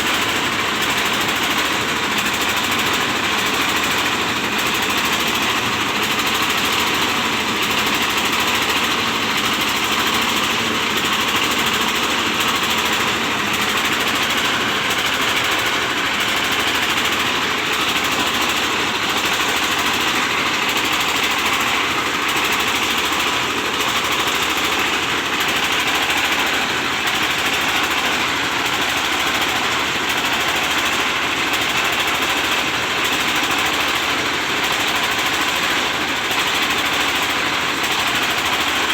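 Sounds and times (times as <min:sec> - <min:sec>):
diesel-driven rice milling machine: 0:00.0 - 0:38.9.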